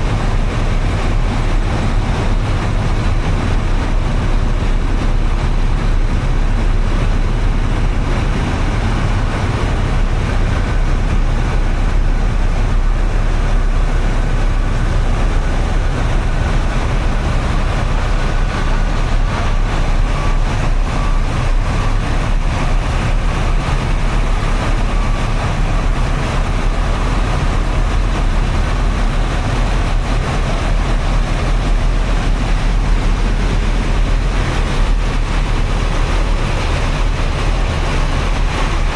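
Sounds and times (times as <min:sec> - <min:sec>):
low rumble: 0:00.0 - 0:38.9
rain falling: 0:00.0 - 0:38.9
traffic on wet roads: 0:00.0 - 0:38.9.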